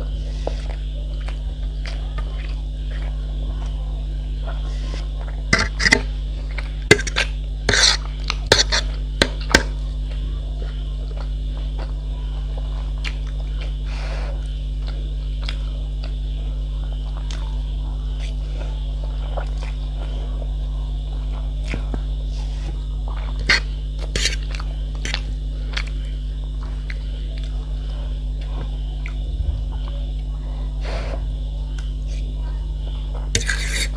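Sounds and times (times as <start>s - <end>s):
chewing: 0.0s - 33.9s
steady low hum: 0.0s - 33.9s.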